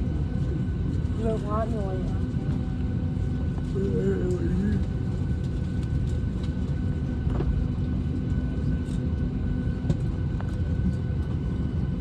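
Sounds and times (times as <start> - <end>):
airliner cabin rumble and hum: 0.0 - 12.0.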